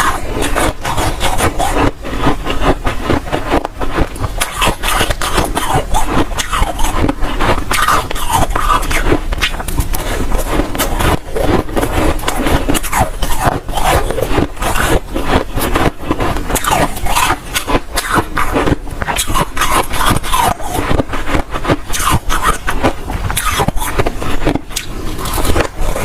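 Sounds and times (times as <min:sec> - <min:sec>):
chewing crunchy frost ice: 0:00.0 - 0:26.0.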